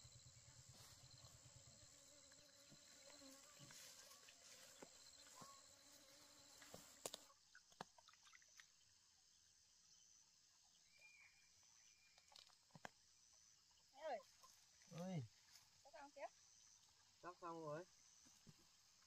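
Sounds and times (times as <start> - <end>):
insects chirring: 0.0 - 7.4, 11.1 - 19.0.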